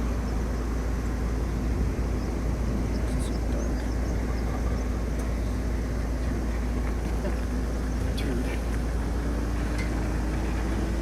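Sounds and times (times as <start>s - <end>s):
vehicle road rumble: 0.0s - 11.0s.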